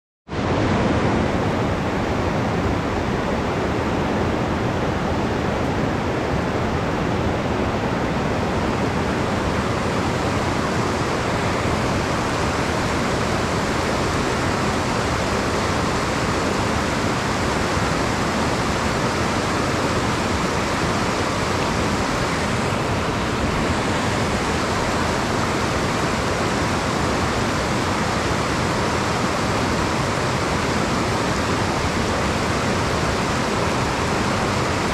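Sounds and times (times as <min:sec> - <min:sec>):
stream rushing over rocks: 0:00.3 - 0:34.9.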